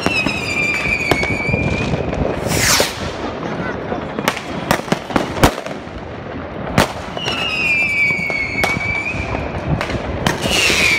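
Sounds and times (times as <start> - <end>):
whistling firework: 0.0 - 5.9, 6.6 - 10.9
firecrackers banging: 0.0 - 10.9.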